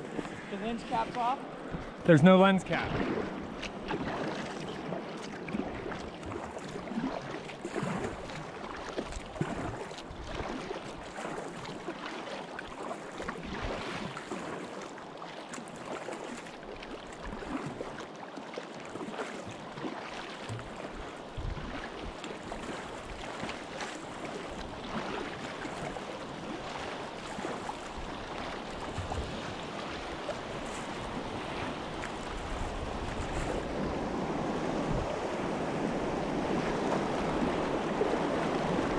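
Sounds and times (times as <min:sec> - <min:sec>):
river water rushing and splashing: 0:00.0 - 0:38.9.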